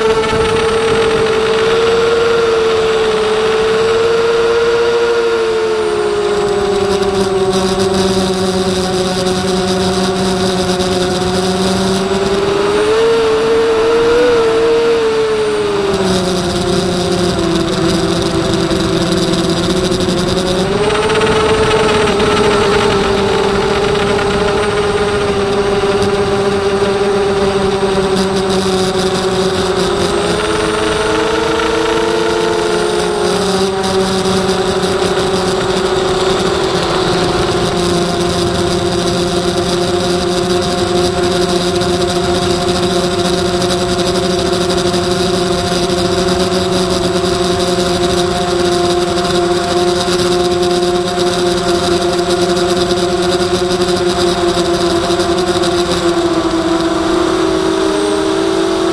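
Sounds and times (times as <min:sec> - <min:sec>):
quadcopter motors whining: 0:00.0 - 0:58.9.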